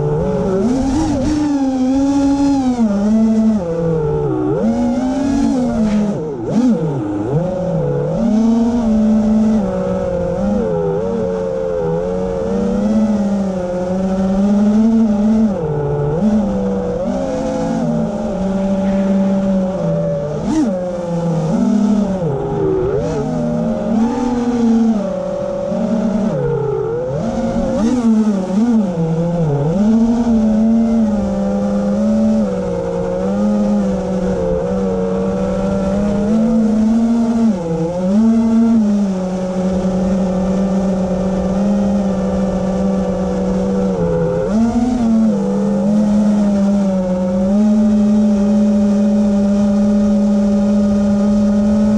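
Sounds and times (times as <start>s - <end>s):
electric propeller motors humming: 0.0s - 51.9s.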